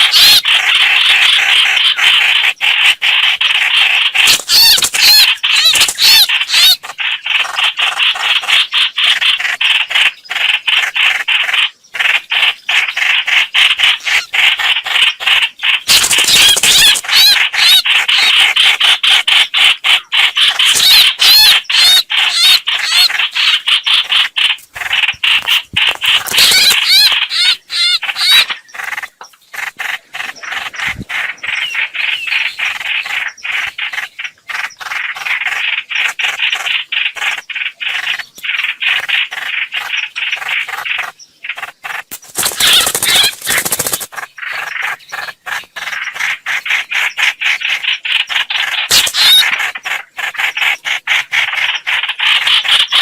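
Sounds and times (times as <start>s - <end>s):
harsh high bird calls: 0.0s - 53.0s.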